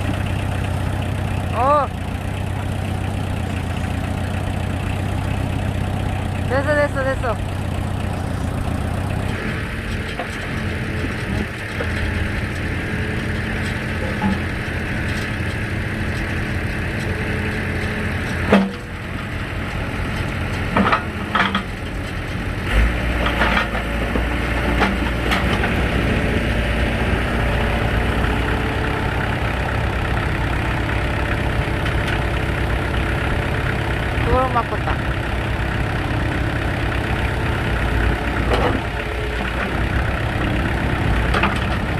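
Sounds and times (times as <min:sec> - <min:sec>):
log splitter engine running: 0:00.0 - 0:41.9.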